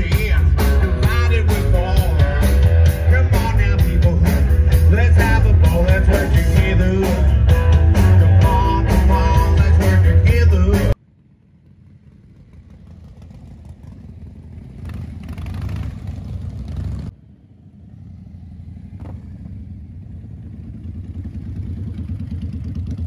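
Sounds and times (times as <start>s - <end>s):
motorcycles riding past: 0.0s - 23.0s.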